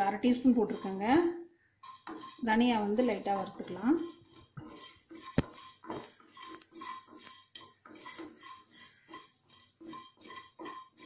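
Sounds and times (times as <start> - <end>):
spatula scraping seeds in pan: 0.0 - 11.0.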